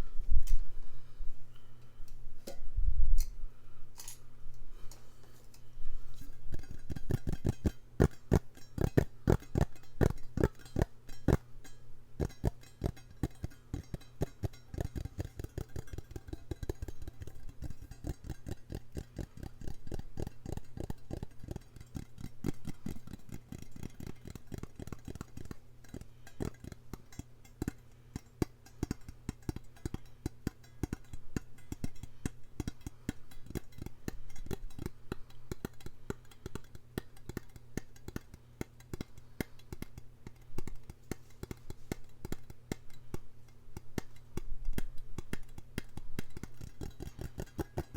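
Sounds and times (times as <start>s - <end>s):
steady low hum: 0.0s - 47.9s
rapid tapping on hard object: 6.5s - 47.9s.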